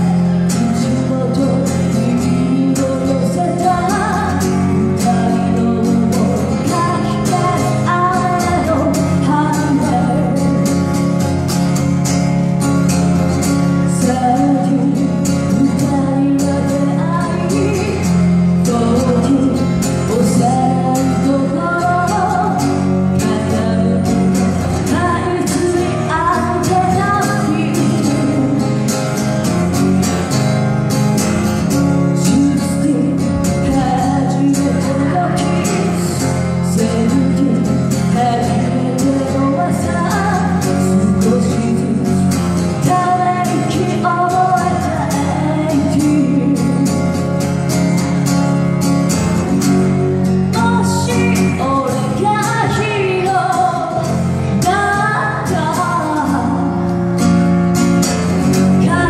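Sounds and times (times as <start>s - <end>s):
woman singing pop song: 0.0s - 11.2s, 12.9s - 29.2s, 31.7s - 47.4s, 49.6s - 57.4s, 58.5s - 59.0s
acoustic guitar strumming: 0.0s - 59.0s.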